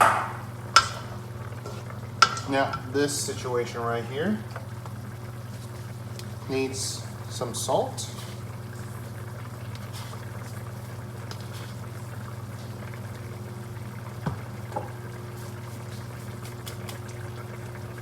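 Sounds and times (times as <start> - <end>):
low steady hum: 0.0 - 18.0
soup simmering in pot: 0.0 - 18.0.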